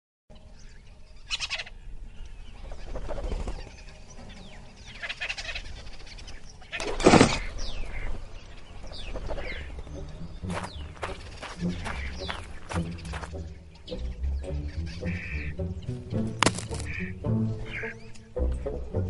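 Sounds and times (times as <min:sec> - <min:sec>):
bird calls with gliding chirps: 0:00.3 - 0:19.0.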